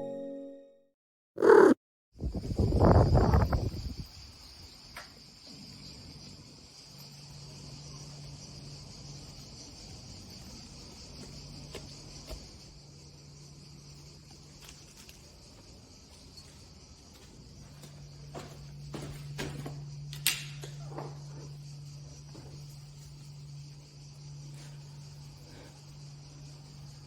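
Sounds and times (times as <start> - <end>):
crickets chirping: 1.4 - 27.0.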